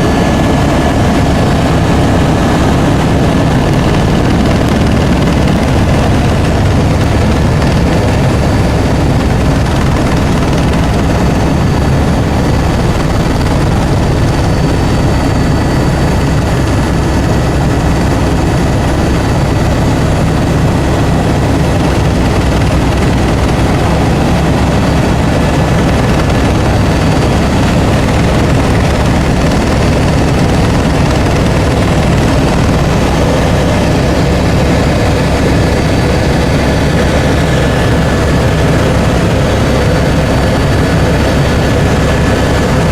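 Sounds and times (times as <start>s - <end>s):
helicopter engine and rotor: 0.0s - 42.9s.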